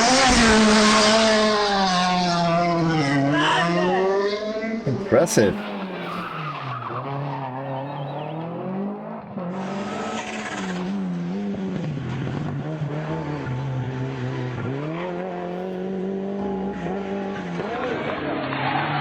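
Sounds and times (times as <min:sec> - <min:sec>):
car engine revving hard: 0:00.0 - 0:19.0.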